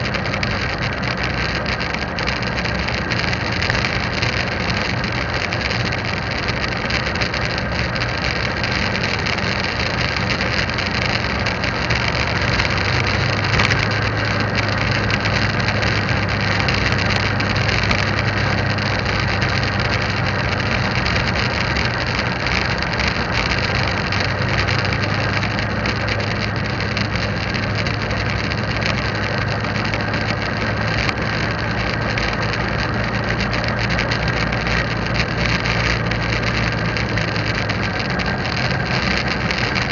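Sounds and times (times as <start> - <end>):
motorcycle engine running: 0.0 - 39.9
road noise: 0.0 - 39.9
small clicks: 0.0 - 39.9.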